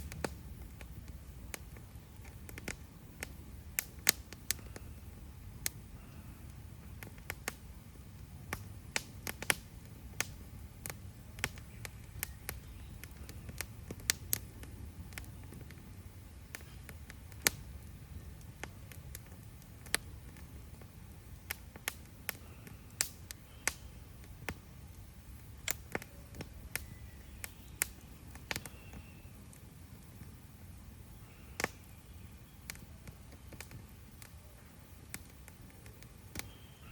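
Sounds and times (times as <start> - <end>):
campfire wood crackling: 0.0 - 36.9
sharp pops of fire: 0.0 - 36.9.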